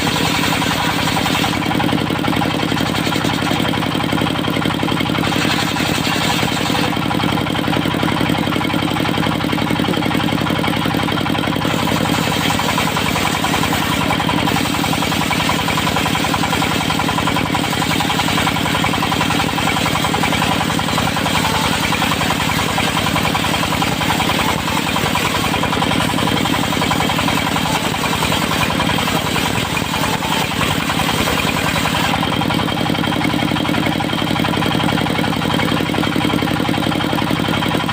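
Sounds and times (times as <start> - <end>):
sawmill diesel engine running: 0.0 - 37.9.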